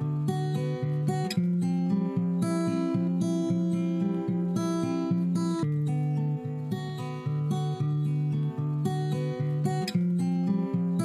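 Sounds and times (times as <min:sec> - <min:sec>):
acoustic guitar plucking: 0:00.0 - 0:11.0.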